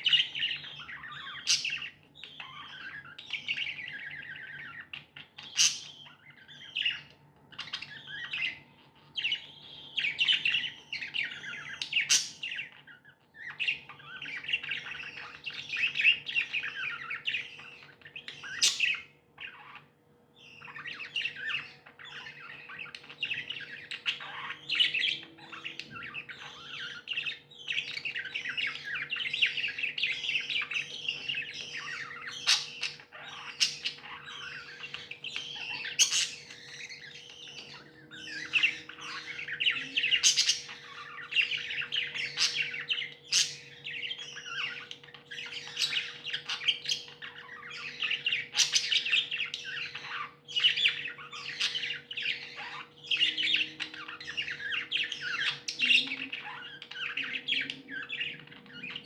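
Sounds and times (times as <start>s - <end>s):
budgies chirping and chattering: 0.0s - 59.0s.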